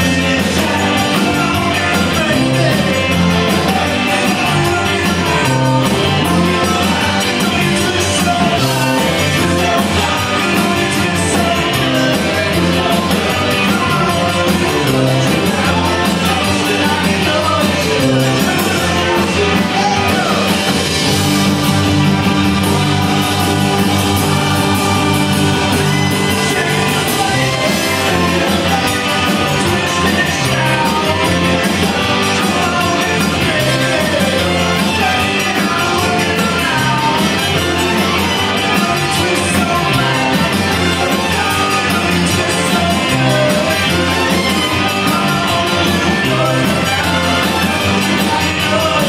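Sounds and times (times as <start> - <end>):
person singing: 0.0 - 21.5, 22.7 - 49.0
accordion: 0.0 - 49.0
rock band playing live: 0.0 - 49.0.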